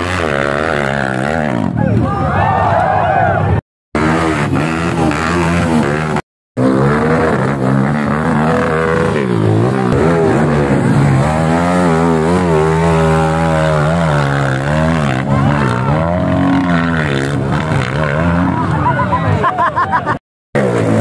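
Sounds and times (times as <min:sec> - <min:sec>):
motorcycle engine revving: 0:00.0 - 0:01.9, 0:03.9 - 0:19.0, 0:20.6 - 0:21.0.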